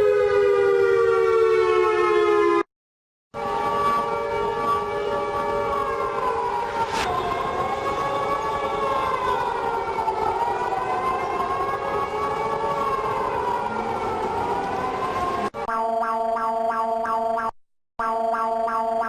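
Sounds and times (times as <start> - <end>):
siren wailing: 0.0 - 2.6, 3.4 - 19.0.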